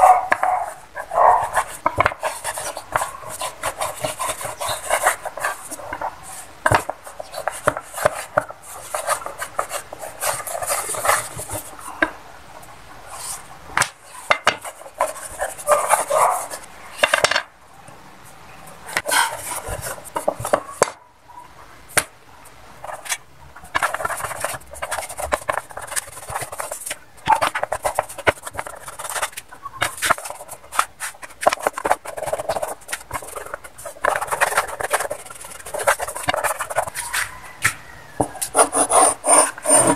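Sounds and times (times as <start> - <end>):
wooden dowel rolling over dough: 0.0 - 17.4, 18.8 - 20.9, 22.8 - 39.9.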